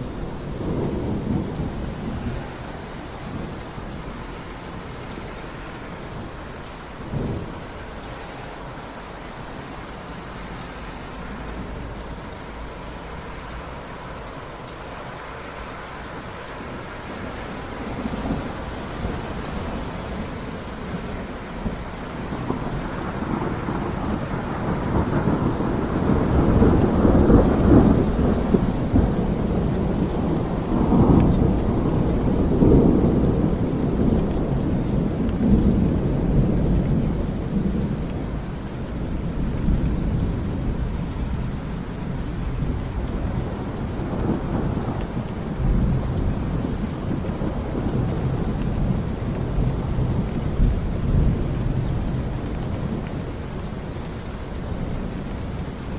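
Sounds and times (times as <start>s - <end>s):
rolling thunder: 0.0s - 14.5s, 16.1s - 55.9s
steady rain: 0.0s - 55.9s.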